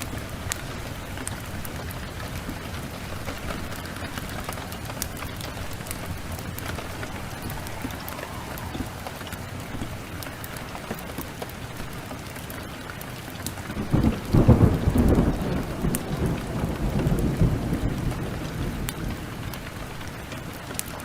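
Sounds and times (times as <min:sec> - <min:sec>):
thunder rumbling: 0:00.0 - 0:12.2, 0:13.7 - 0:20.3
steady rain: 0:00.0 - 0:21.0
wood fire crackling: 0:00.0 - 0:21.0.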